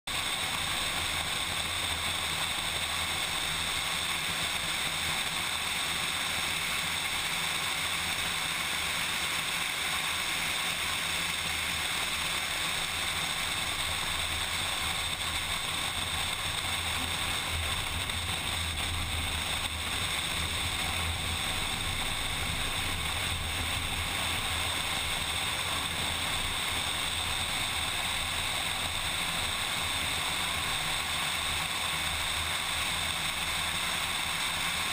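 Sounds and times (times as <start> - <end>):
car engine drone: 0.1 - 34.9.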